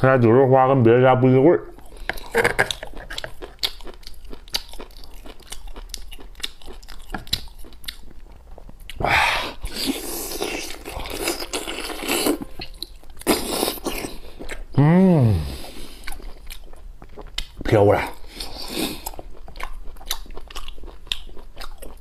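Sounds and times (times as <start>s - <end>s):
person chewing and tearing meat: 1.8s - 14.8s, 15.7s - 22.0s.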